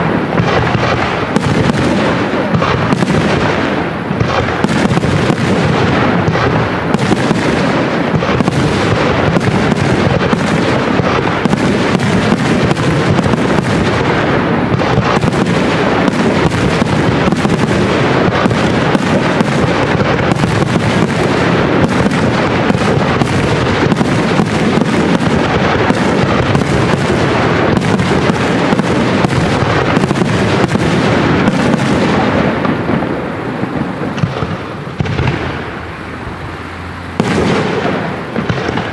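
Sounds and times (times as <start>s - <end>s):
fireworks launching and bursting: 0.0s - 38.9s.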